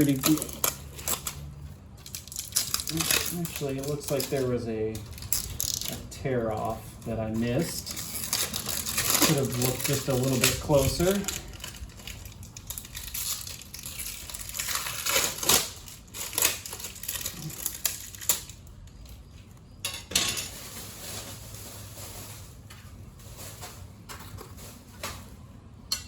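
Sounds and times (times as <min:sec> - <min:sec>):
rustling and scraping: 0:00.0 - 0:25.7.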